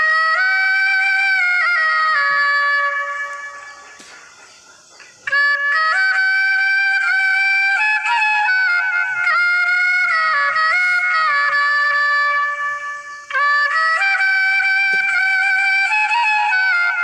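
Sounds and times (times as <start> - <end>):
harmonium slow melody: 0.0 - 17.0.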